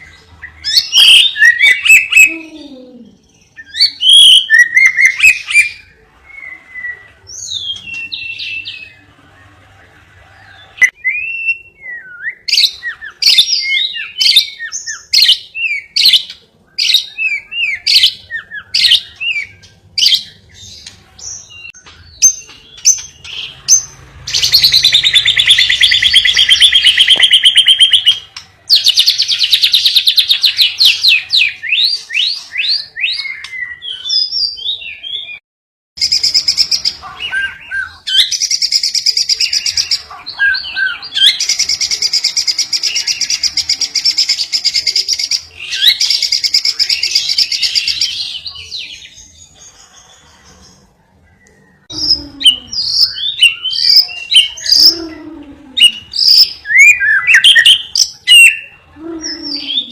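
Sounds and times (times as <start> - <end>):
bird chirps and trills: 0.0 - 35.4, 36.0 - 55.2, 55.8 - 59.9.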